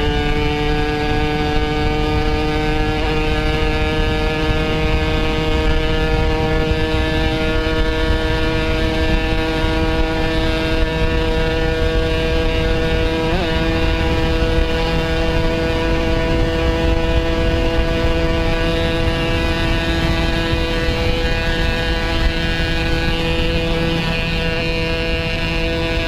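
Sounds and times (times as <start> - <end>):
two-stroke motorcycle engine: 0.0 - 26.0
wind noise rumble: 0.0 - 26.0.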